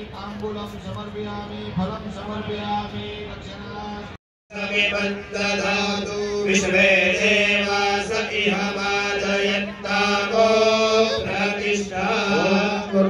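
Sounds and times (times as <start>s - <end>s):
priest chanting melodically: 0.2s - 13.0s.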